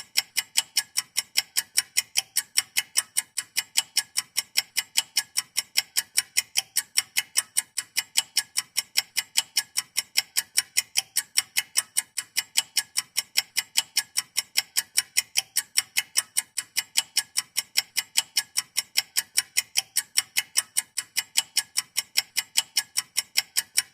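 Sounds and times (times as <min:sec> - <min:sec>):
stopwatch ticking rapidly: 0:00.0 - 0:23.9.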